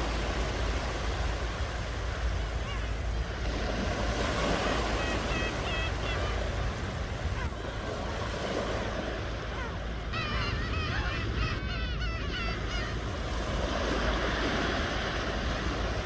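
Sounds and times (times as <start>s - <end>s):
ocean waves washing: 0.0s - 16.0s
wind rumble on microphone: 0.0s - 16.0s.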